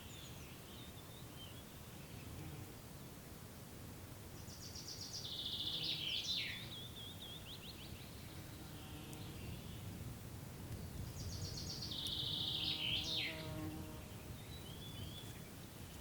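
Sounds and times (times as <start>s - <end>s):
songbird singing: 0.0s - 3.3s, 4.3s - 16.0s.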